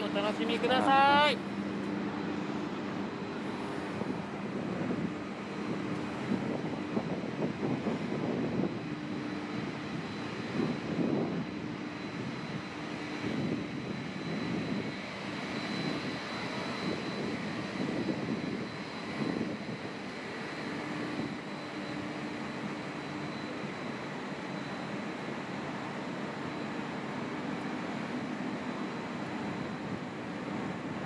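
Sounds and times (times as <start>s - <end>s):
wind buffeting microphone: 0.0s - 25.3s, 25.9s - 31.0s
faint high whine: 0.0s - 31.0s
steady mechanical hum: 0.0s - 31.0s.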